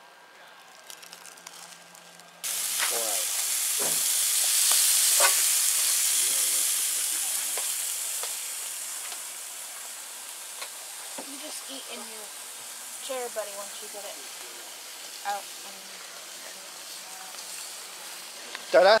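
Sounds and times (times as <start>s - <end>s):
meat sizzling on a grill: 0.7s - 19.0s.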